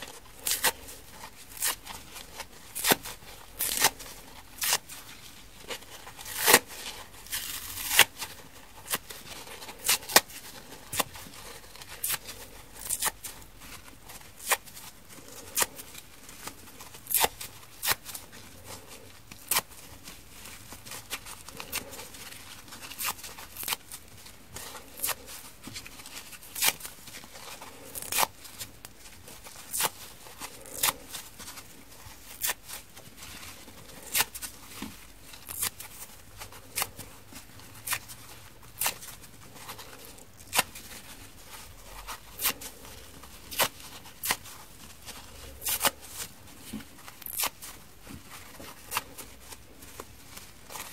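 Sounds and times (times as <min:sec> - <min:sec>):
foam sponge tearing: 0:00.0 - 0:50.9.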